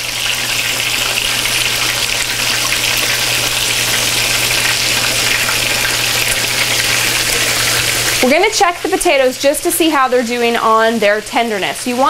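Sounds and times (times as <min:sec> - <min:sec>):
chicken frying in hot oil: 0:00.0 - 0:12.0.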